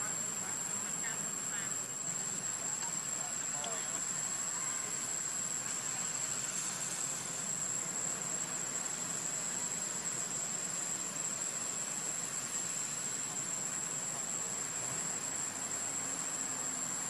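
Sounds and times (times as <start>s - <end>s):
background hiss: 0.0s - 17.0s
high-pitched insect drone: 0.0s - 17.0s.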